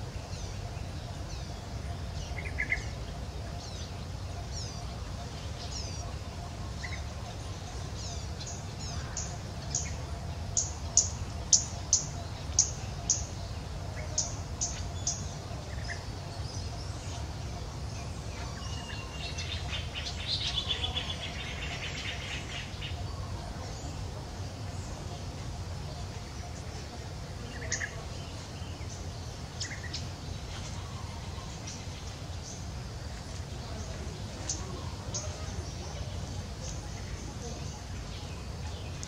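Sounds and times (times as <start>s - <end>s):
bird chirping: 0.2s - 39.0s.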